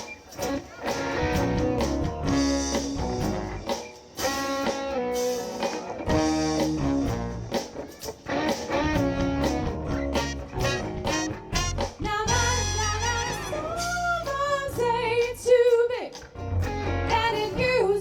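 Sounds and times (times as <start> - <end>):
bass: 0.0 - 18.0
drums: 0.0 - 18.0
electric guitar: 0.0 - 18.0.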